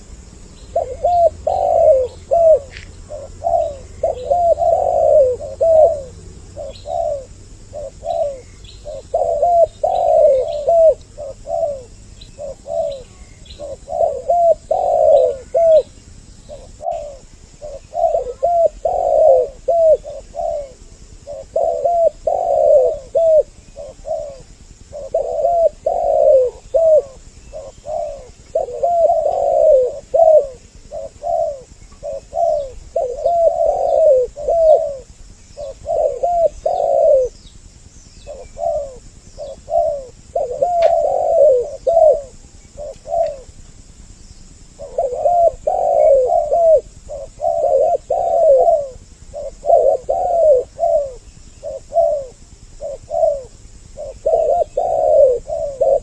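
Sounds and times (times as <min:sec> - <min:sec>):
doves cooing: 0:00.0 - 0:56.0
small birds chirping: 0:00.0 - 0:56.0.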